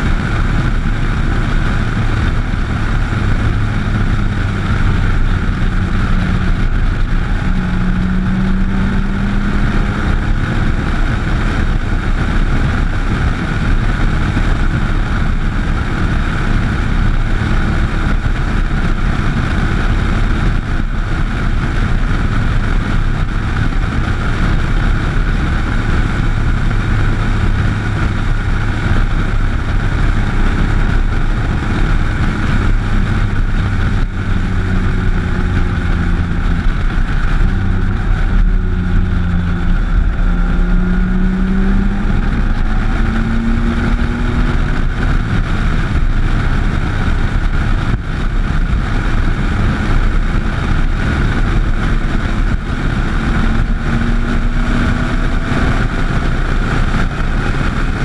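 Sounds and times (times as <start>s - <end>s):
motorcycle engine hum: 0.0s - 58.0s
wind rushing over camera: 0.0s - 58.0s.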